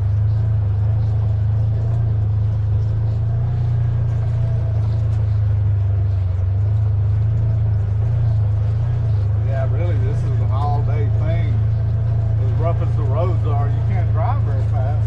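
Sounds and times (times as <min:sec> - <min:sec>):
buggy engine droning: 0:00.0 - 0:15.0.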